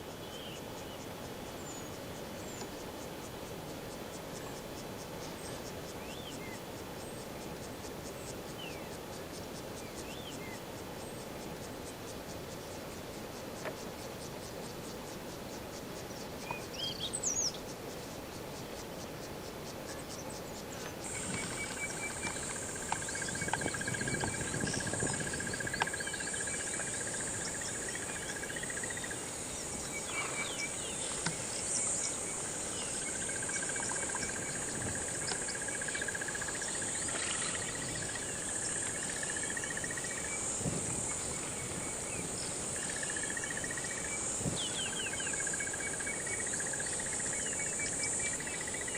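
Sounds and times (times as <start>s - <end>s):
insects trilling: 0.0s - 48.9s
lower long insect trills: 0.0s - 48.9s
short insect chirps: 0.0s - 48.9s.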